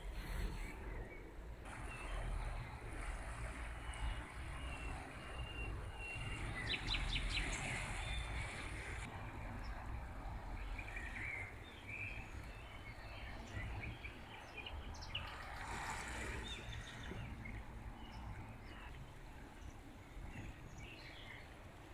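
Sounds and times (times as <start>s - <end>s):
flowing river: 0.0s - 21.9s.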